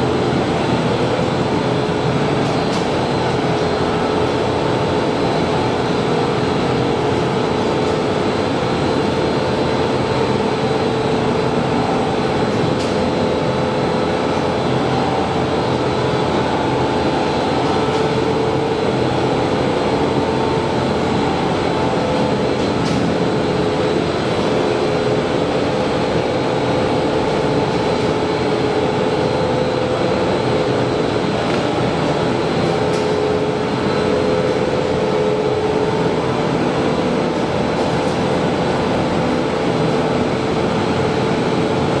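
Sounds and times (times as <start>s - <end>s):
loud machine din with hum: 0.0s - 42.0s.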